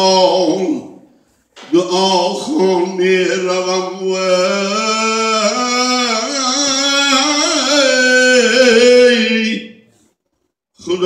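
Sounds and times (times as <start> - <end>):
man singing wordless phrase: 0.0 - 1.0, 1.6 - 9.8, 10.8 - 11.0.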